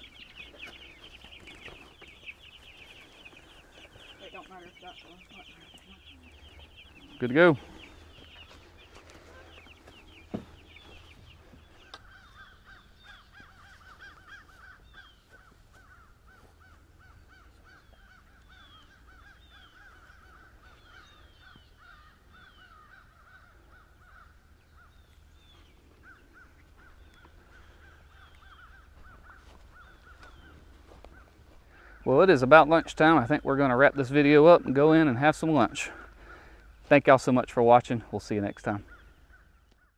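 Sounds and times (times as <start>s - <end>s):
chickens cheeping: 0.0s - 39.9s.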